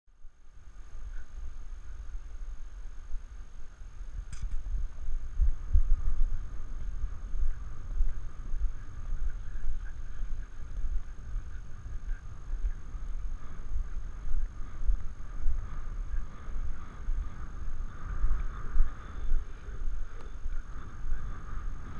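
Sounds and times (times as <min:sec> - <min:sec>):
wind buffeting microphone: 0:00.4 - 0:21.9.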